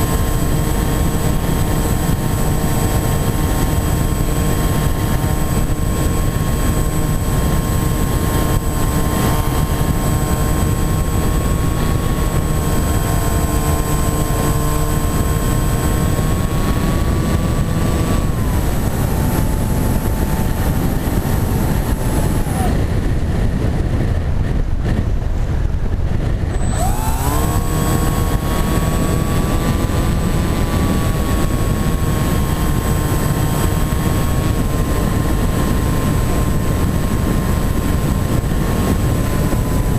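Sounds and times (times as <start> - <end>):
electric motor and propeller whining: 0.0 - 39.9
heavy wind rush: 0.0 - 39.9.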